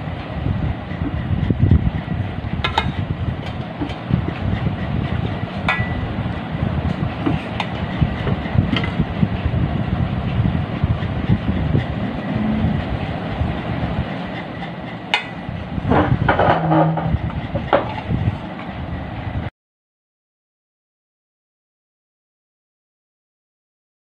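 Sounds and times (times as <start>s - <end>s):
steady low rumble: 0.0s - 19.5s.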